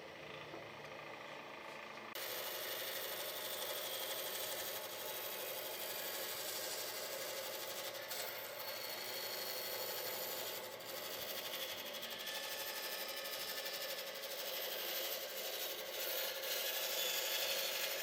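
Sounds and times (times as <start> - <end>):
power tool cutting wood: 2.2 - 18.0.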